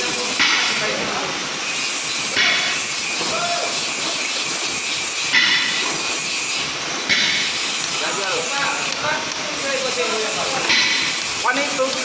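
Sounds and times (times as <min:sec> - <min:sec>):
loud surges of hiss: 0:00.0 - 0:12.0
steady hissing: 0:00.0 - 0:12.0.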